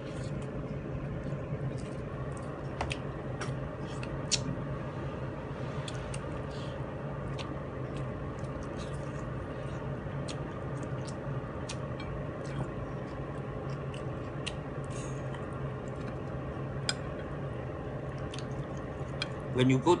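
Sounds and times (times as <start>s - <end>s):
person chewing: 0.0s - 4.5s, 5.8s - 17.3s, 18.1s - 19.4s
steady low hum: 0.0s - 20.0s.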